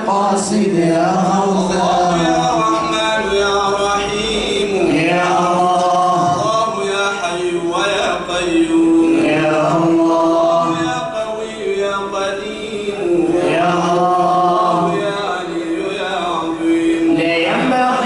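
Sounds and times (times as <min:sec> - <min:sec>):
men chanting: 0:00.0 - 0:18.0.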